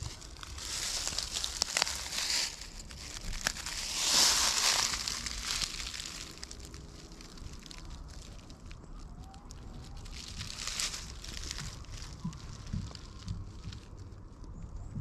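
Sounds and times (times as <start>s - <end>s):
rustling crinkling noise: 0.0s - 15.0s.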